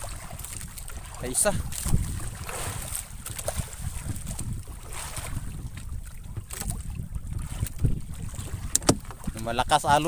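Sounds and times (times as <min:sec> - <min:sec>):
water slapping against hull: 0:00.0 - 0:10.0
wind buffeting microphone: 0:00.0 - 0:10.0.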